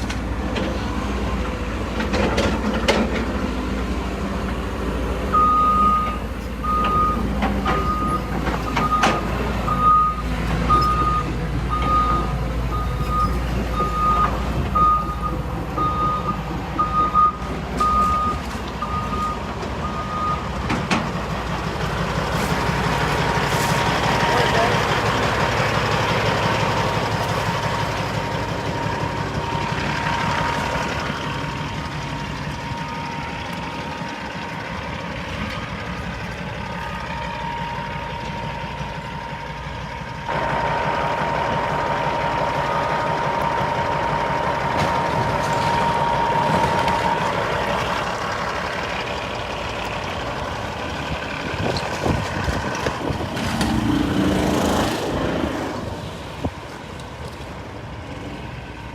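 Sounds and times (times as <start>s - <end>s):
heavy machinery engine running: 0.0s - 58.9s.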